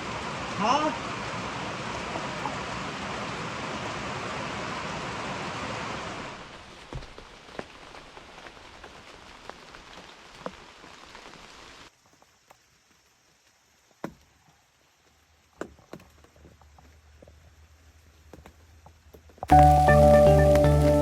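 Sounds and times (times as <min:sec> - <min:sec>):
heavy rain: 0:00.0 - 0:15.5, 0:19.5 - 0:21.0
rain taps: 0:00.0 - 0:21.0.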